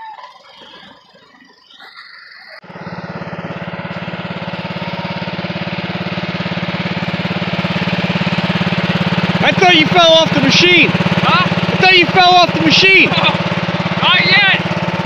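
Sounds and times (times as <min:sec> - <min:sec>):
riding lawn mower engine running: 0:02.1 - 0:15.0.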